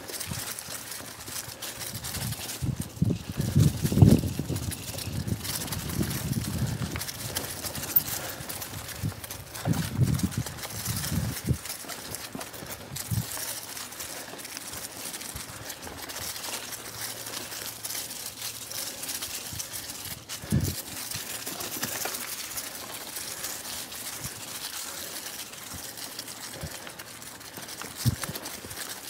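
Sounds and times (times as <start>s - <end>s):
bike tyres crunching leaves: 0.0s - 29.0s
low thumps from trail bumps: 0.0s - 29.0s.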